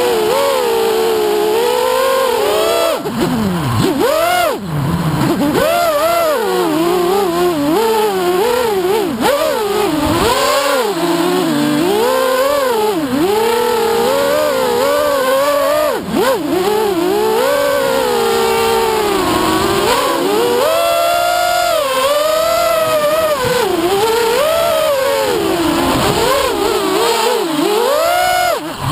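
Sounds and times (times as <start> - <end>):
drone motors whining: 0.0 - 28.9.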